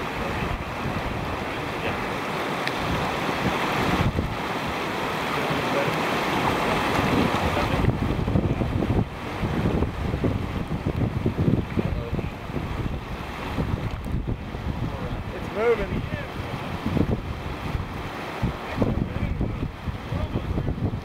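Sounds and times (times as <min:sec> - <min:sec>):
whitewater rapids rushing: 0:00.0 - 0:21.0
wind buffeting microphone: 0:00.0 - 0:21.0.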